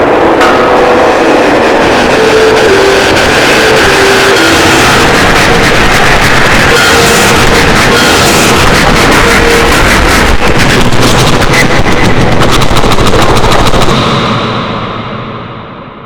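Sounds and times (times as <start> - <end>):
distorted breakcore noise music: 0.0 - 16.0.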